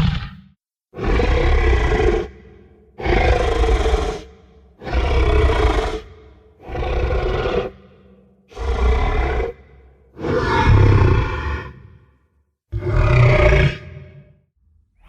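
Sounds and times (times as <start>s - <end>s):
monster growling: 1.0s - 12.0s, 12.8s - 14.4s.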